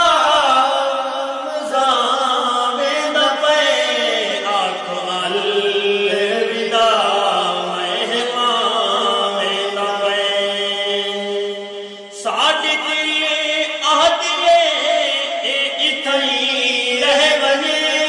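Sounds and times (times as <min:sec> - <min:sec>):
men singing unaccompanied: 0:00.0 - 0:11.6, 0:12.2 - 0:18.0.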